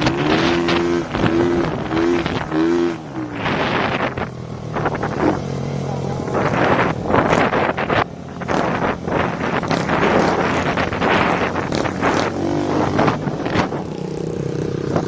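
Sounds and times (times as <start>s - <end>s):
motorcycles revving: 0.0s - 15.0s
wind buffeting microphone: 0.0s - 15.0s.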